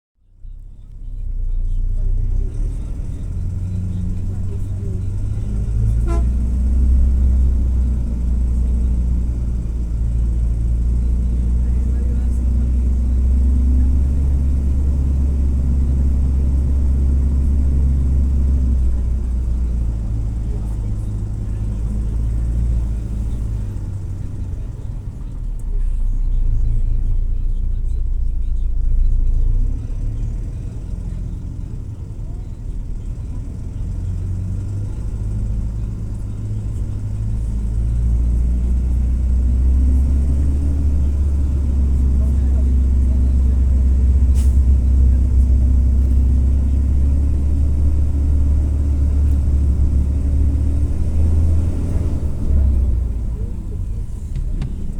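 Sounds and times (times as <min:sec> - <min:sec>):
diesel engine drone: 0:00.2 - 0:54.9.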